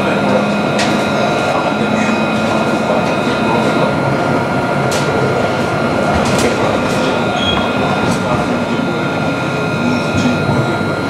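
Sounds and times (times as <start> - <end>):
thin high whine: 0.0 - 11.0
tram rolling rumble: 0.0 - 11.0.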